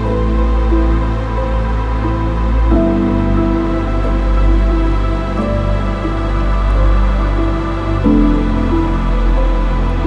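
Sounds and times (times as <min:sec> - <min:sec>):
ambient music with deep bass: 0:00.0 - 0:10.0.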